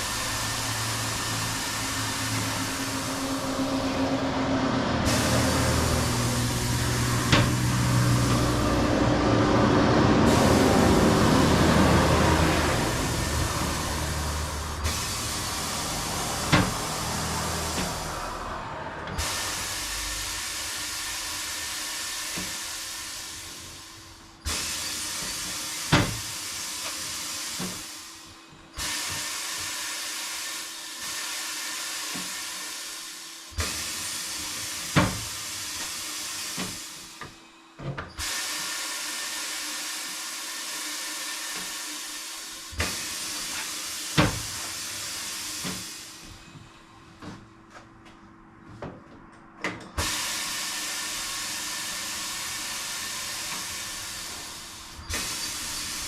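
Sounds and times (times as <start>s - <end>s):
air hissing bursts: 0.0s - 4.0s, 5.0s - 9.1s, 10.2s - 28.2s, 28.8s - 37.2s, 38.1s - 46.6s, 50.0s - 56.0s.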